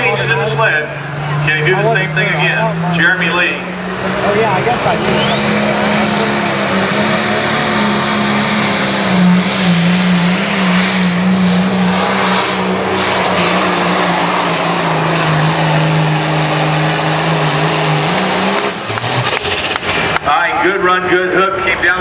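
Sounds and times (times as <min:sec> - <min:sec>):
diesel engine running flat out: 0:00.0 - 0:21.9.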